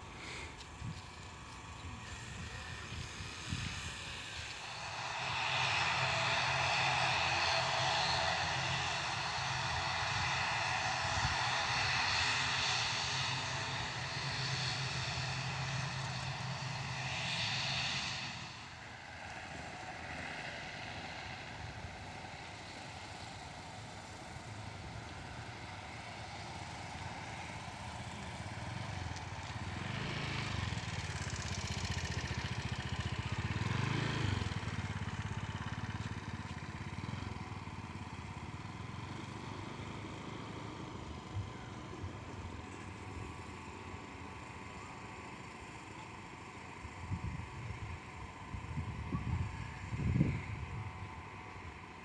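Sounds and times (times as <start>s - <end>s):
jet engine noise: 0.0s - 39.4s, 40.0s - 52.0s
motor vehicle engine: 0.0s - 52.0s.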